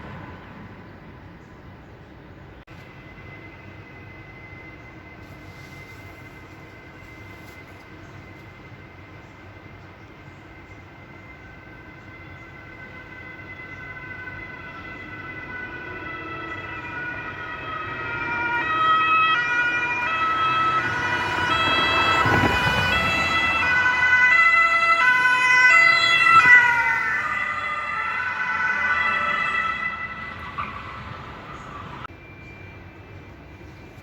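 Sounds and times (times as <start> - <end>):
car engine and tyre noise: 0.0 - 34.0
two-tone police siren: 2.7 - 34.0.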